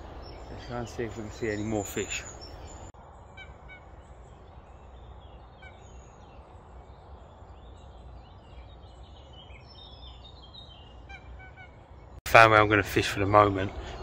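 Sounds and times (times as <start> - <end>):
birds chirping and calling: 0.0 - 12.2.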